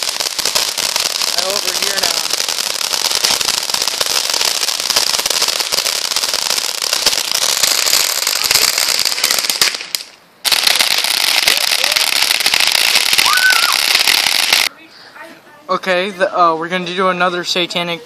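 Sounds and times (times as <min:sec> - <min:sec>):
firework hissing crackle: 0:00.0 - 0:14.7.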